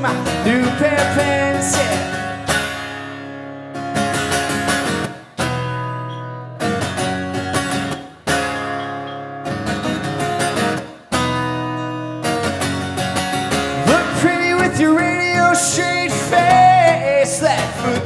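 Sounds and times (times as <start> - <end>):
acoustic guitar chords strummed: 0.0 - 18.0.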